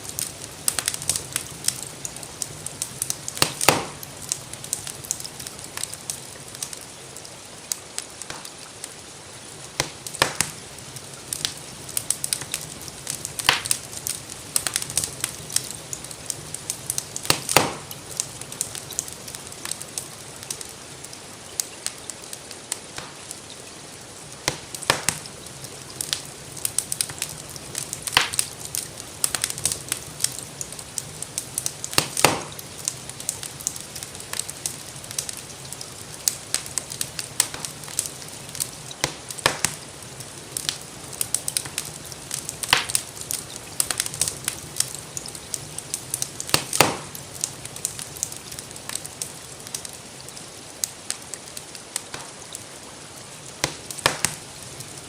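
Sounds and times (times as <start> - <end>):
gentle rain hiss: 0.0 - 55.0
wood fire crackling: 0.0 - 55.0.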